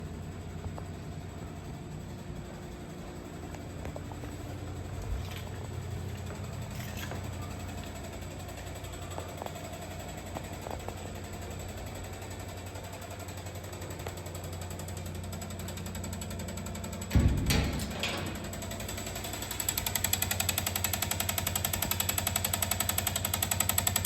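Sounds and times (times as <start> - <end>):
water meter humming: 0.0 - 24.0.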